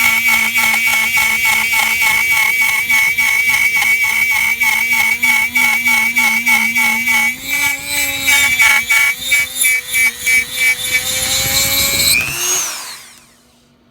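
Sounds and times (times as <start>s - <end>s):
rotary tool cutting plastic: 0.0s - 13.7s.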